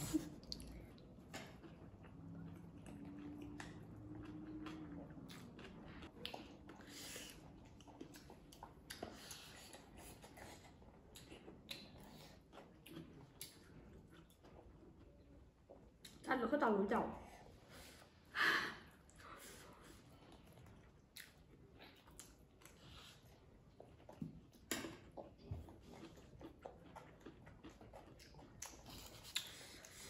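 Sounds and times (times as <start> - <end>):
quiet chewing mouth sounds: 0.0 - 16.3, 18.9 - 30.0.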